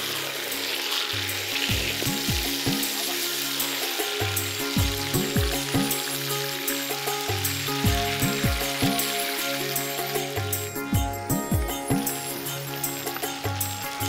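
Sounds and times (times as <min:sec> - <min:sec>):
fish sizzling in hot oil: 0:00.0 - 0:10.9, 0:12.0 - 0:14.0
background music with falling bass: 0:00.0 - 0:14.0.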